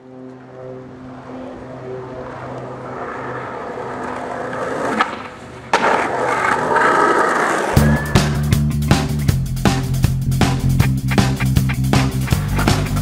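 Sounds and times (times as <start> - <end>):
skateboard wheels rolling on pavement: 0.0 - 13.0.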